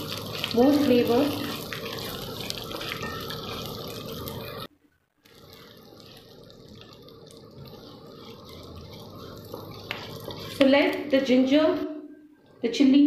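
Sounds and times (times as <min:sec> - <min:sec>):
spices sizzling in hot oil: 0:00.0 - 0:11.8
wooden spatula stirring: 0:00.0 - 0:11.8.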